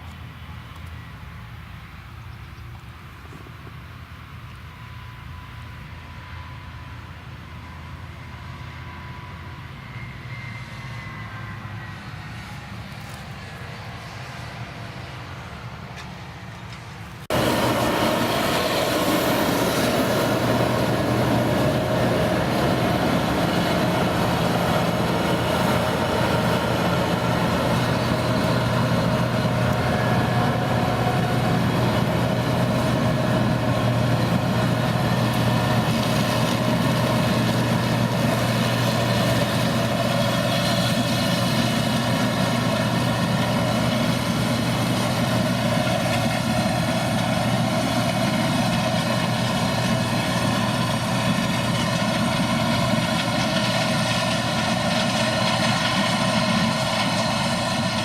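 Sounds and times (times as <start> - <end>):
diesel engine running steadily: 0.0 - 58.0.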